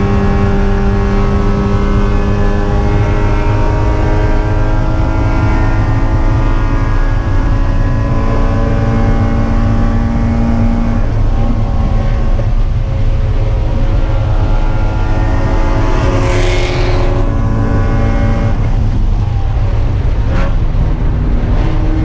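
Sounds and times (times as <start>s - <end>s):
race car engine running: 0.0s - 22.0s.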